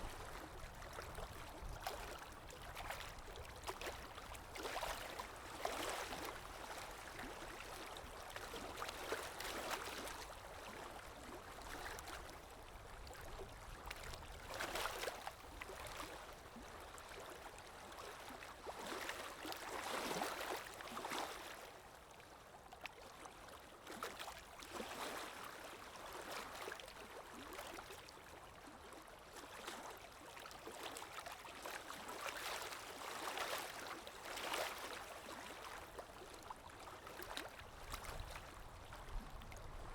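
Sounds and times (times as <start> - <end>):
calm sea waves: 0.0 - 39.9.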